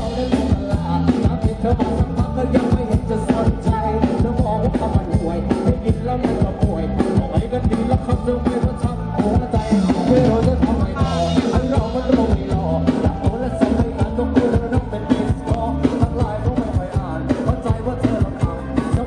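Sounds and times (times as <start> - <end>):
live band through loudspeakers: 0.0 - 19.0
man singing: 0.0 - 19.0
steady drum beat: 0.0 - 19.0.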